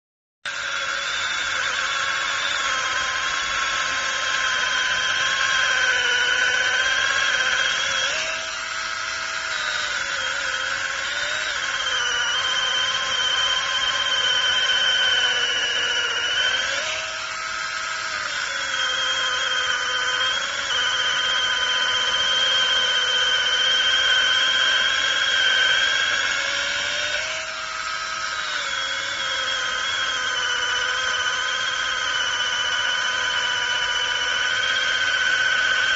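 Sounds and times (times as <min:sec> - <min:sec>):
mini chainsaw cutting: 0:00.5 - 0:35.9.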